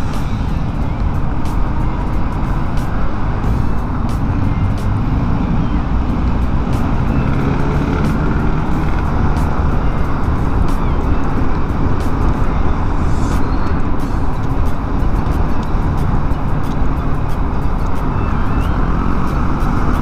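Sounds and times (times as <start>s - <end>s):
motorcycle engine rumble: 0.0s - 20.0s
road and wind noise: 0.0s - 20.0s.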